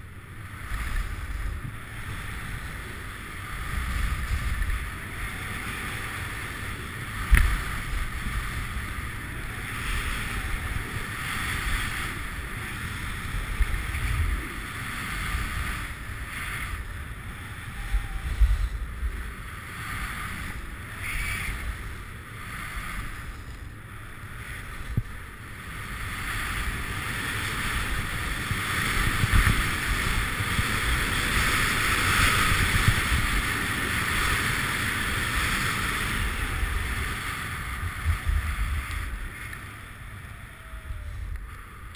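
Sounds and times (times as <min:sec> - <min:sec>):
wind on microphone: 0:00.0 - 0:41.9
skis hissing over snow: 0:00.4 - 0:40.4.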